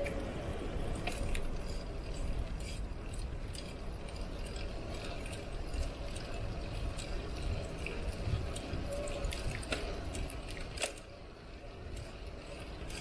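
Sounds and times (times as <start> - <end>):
bike rattling and clinking: 0.0 - 13.0
low rumble of riding noise: 0.0 - 13.0.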